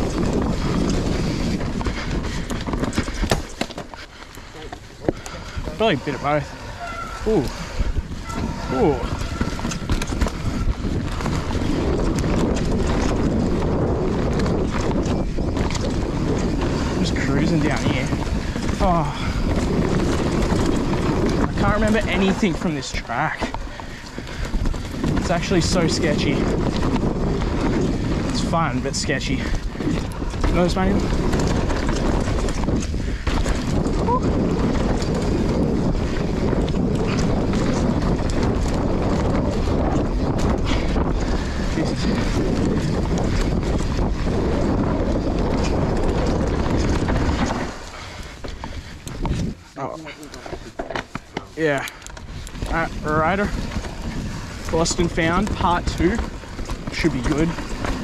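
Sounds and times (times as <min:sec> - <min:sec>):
bike clattering over bumps: 0:00.0 - 0:58.0
tyres crunching over dirt and stones: 0:00.0 - 0:58.0
wind rumble on microphone: 0:00.0 - 0:58.0.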